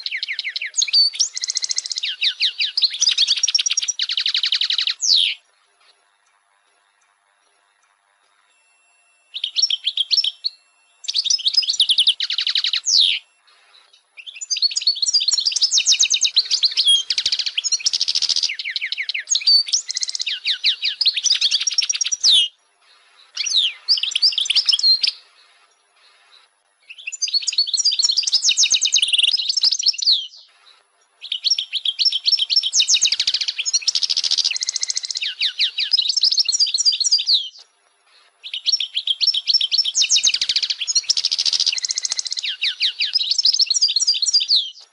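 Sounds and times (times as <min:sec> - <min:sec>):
finch twittering song: 0:00.0 - 0:44.9.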